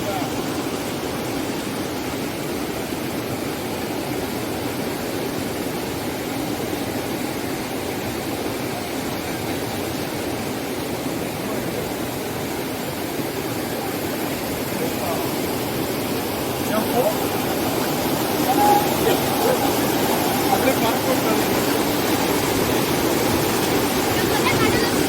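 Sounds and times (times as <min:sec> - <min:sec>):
water rushing over rocks: 0:00.0 - 0:25.0.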